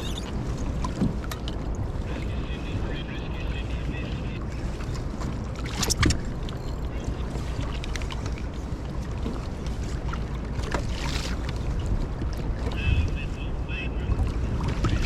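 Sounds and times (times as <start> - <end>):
sea water splashing against boat: 0.0 - 15.0
wind rumble on microphone: 0.0 - 15.0.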